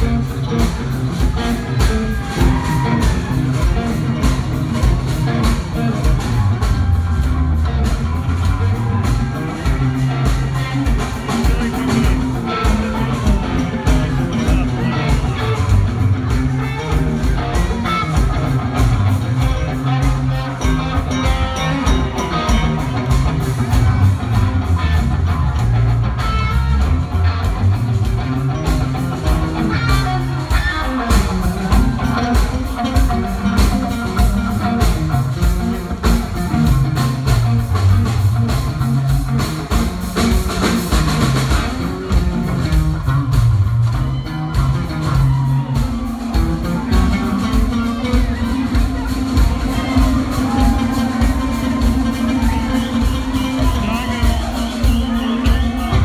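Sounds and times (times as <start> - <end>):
bass line: 0.0 - 56.0
electric guitar: 0.0 - 56.0
pounding drum kit: 0.0 - 56.0.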